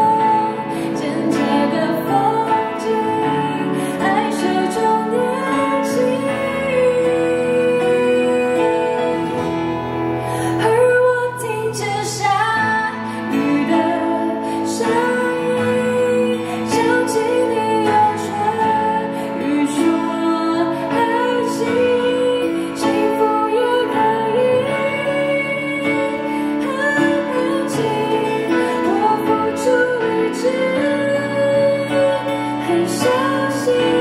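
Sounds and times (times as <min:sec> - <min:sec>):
acoustic guitar: 0:00.0 - 0:34.0
woman singing pop ballad: 0:00.0 - 0:34.0.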